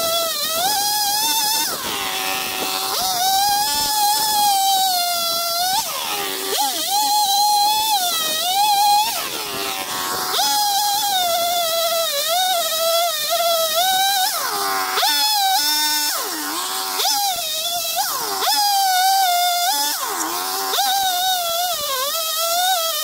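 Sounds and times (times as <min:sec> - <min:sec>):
chainsaw cutting through a log: 0:00.0 - 0:23.0.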